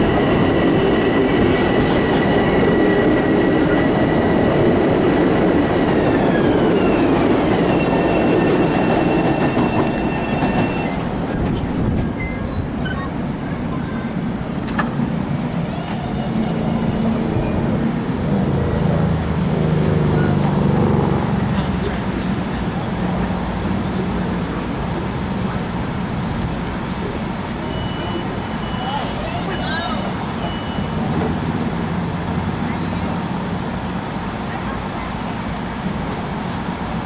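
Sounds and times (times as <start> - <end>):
high train whine: 0.0 - 37.0
train wheel and running noise: 0.0 - 37.0.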